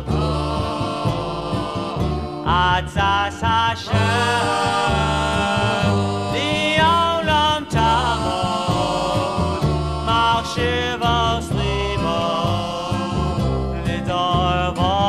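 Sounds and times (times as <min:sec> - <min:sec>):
instrumental backing with bass line: 0:00.0 - 0:15.0
men singing: 0:00.0 - 0:15.0.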